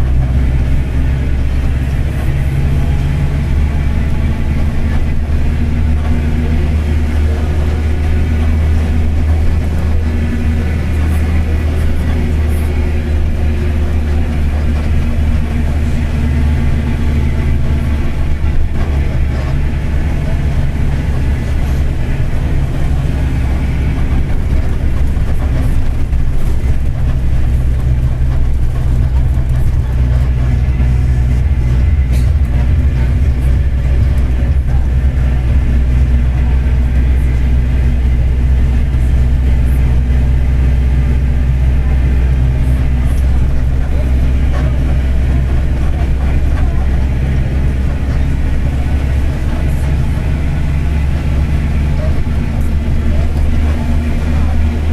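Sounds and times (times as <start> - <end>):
bus diesel engine running: 0.0 - 54.9
driveshaft growl: 0.0 - 54.9.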